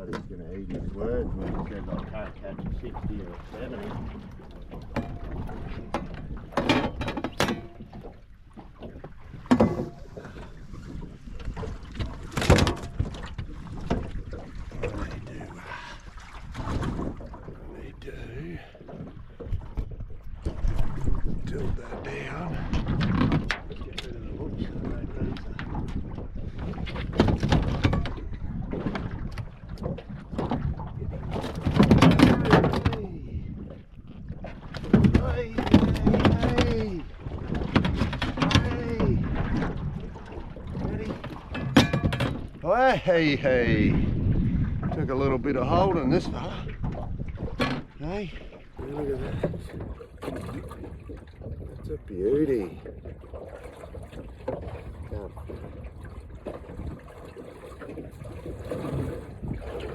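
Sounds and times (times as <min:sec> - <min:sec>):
knocks and clatter on a boat: 0:00.0 - 0:59.9
water noise: 0:00.0 - 0:59.9
wind buffeting microphone: 0:00.0 - 0:59.9.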